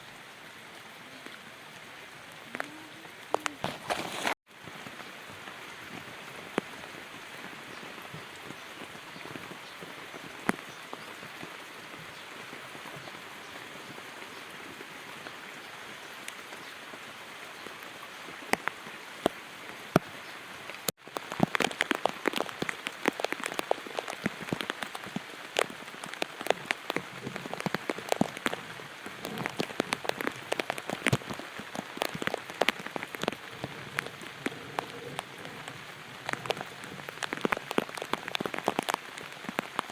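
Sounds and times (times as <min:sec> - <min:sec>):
rain hiss: 0:00.0 - 0:39.9
raindrops tapping: 0:00.0 - 0:39.9.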